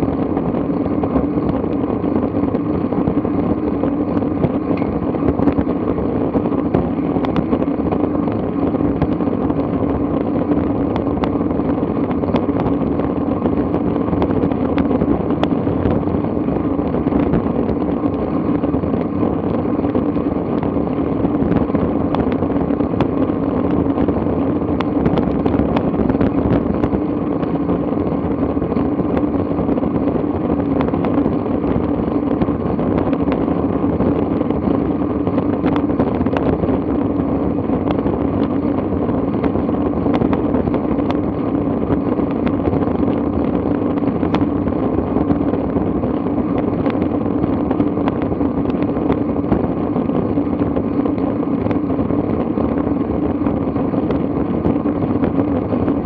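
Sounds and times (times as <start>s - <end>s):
tyre noise on road: 0.0s - 56.0s
wind on microphone: 0.0s - 56.0s.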